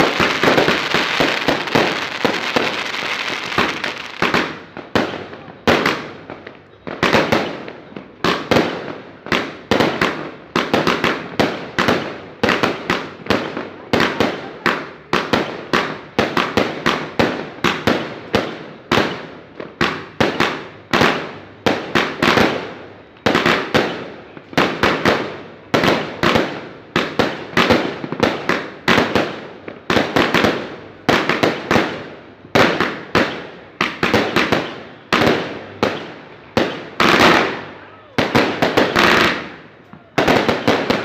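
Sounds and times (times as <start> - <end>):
firecrackers banging: 0.0 - 41.0.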